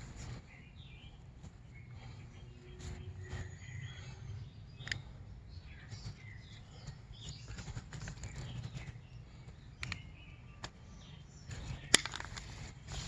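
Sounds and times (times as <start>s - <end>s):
rustling of plastic pipe: 0.0s - 4.2s, 5.8s - 13.0s.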